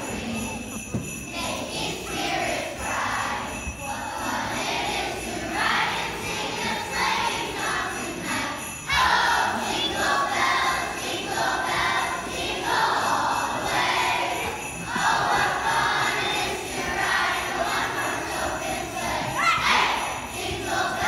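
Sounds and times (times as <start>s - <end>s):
children's choir singing: 0.0s - 21.0s
sleigh bells jingling: 0.0s - 21.0s.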